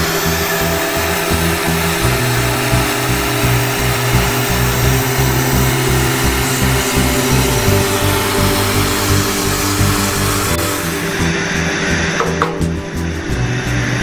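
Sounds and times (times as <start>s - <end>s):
welding torch hissing: 0.0s - 11.7s
background music with bass line: 0.0s - 14.0s.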